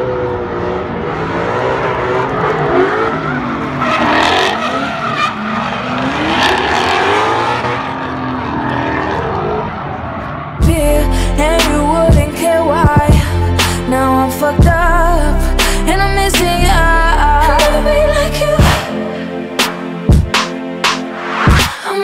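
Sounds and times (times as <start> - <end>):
car engines revving: 0.0 - 21.6.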